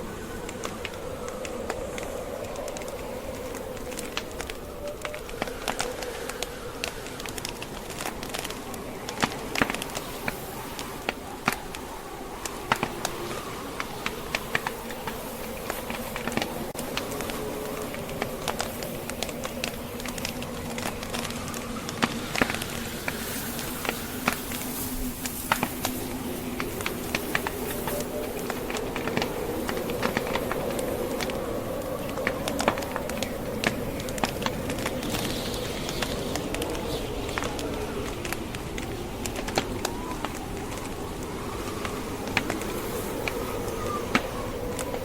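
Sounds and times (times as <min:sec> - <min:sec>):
howling blizzard wind: 0:00.0 - 0:45.0
log fire crackling and popping: 0:00.0 - 0:45.0.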